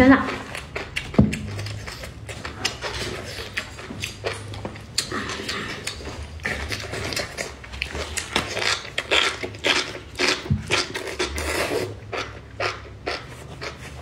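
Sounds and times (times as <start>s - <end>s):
wet slurping and chewing: 0.0s - 14.0s.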